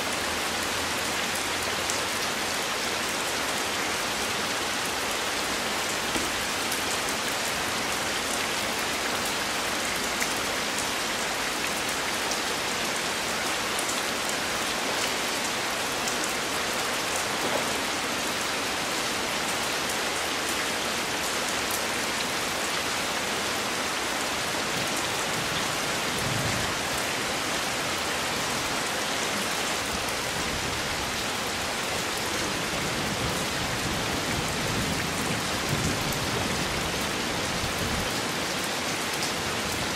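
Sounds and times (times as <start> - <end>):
heavy rain on water and rock: 0.0 - 39.9.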